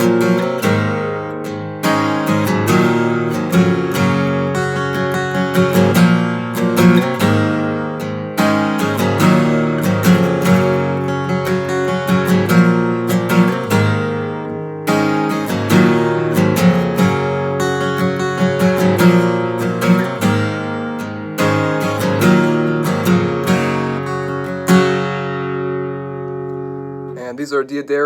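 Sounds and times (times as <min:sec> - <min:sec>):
acoustic guitar strummed and picked: 0:00.0 - 0:28.0.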